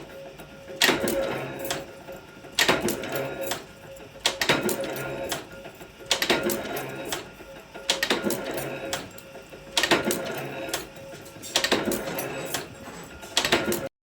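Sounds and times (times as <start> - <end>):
machine metallic clatter: 0.7 - 13.9.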